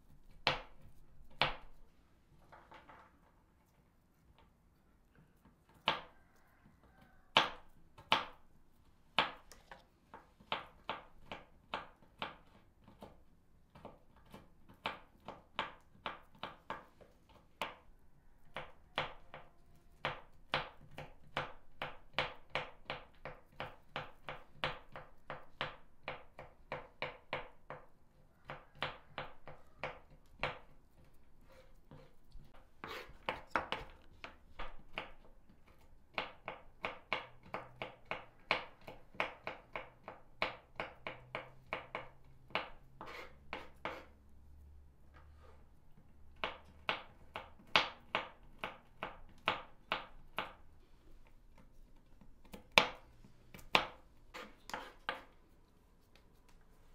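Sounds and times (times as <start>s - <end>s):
toothpick tapping dough: 5.4s - 8.5s, 9.2s - 44.2s, 46.0s - 56.6s.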